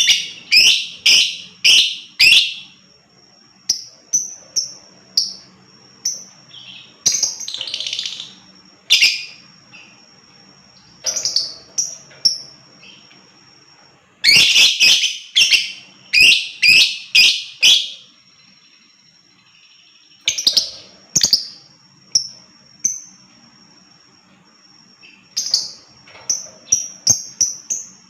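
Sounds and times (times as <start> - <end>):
lovebird chirping: 0.0 - 13.1, 14.2 - 23.3, 25.0 - 28.0
faint steady high tone: 0.0 - 28.0.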